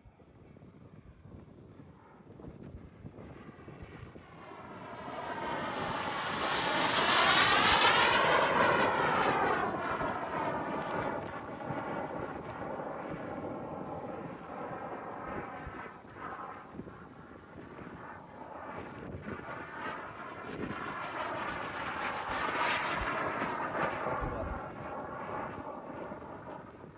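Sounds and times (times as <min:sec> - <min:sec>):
model jet flying past: 0:00.5 - 0:26.9.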